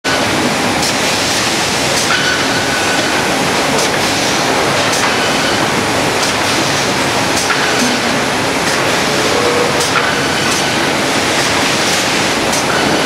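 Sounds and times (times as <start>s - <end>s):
sawmill machinery clattering: 0.1s - 13.0s.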